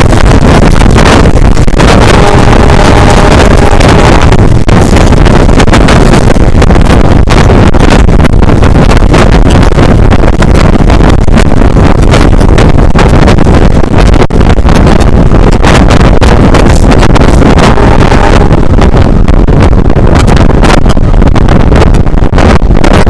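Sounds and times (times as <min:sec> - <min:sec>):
train running on rails: 0:00.0 - 0:19.5
wind buffeting microphone: 0:00.0 - 0:23.0.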